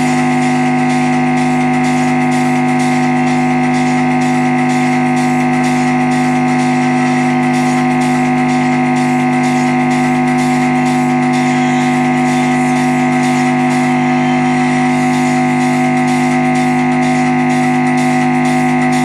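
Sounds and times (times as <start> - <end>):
speaker buzzing hum: 0.0 - 19.0.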